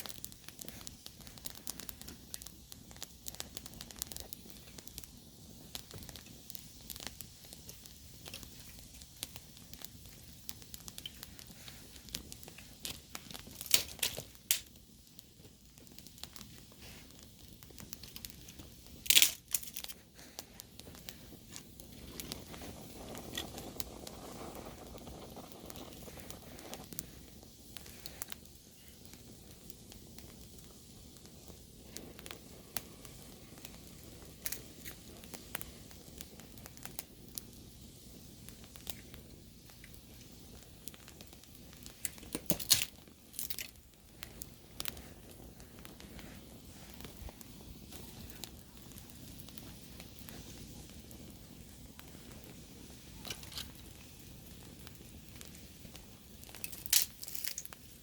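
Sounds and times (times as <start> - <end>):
campfire crackling: 0.0 - 58.0
sharp fire pops: 0.0 - 58.0
soft hiss: 0.0 - 58.0.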